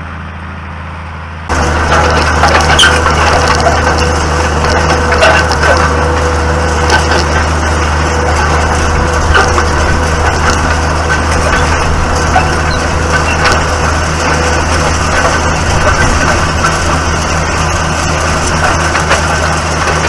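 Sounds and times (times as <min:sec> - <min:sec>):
tractor engine running: 0:00.0 - 0:20.0
irregular crackling: 0:01.5 - 0:20.0.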